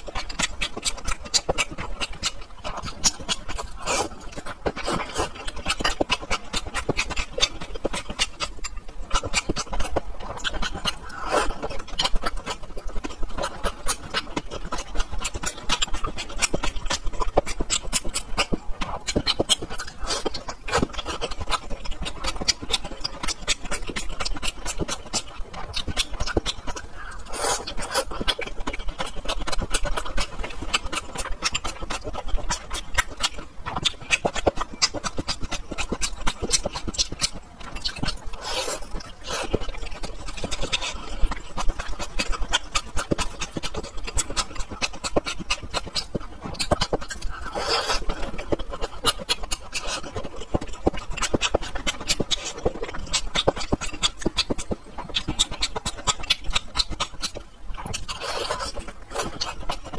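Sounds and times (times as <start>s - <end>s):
chewing and lip-smacking: 0.0s - 59.9s.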